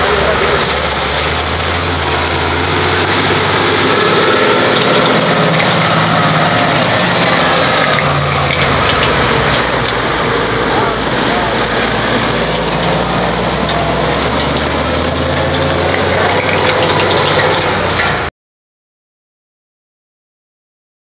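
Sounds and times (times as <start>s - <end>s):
harrow discs working soil: 0.0s - 18.3s
tractor diesel engine running: 0.0s - 18.3s.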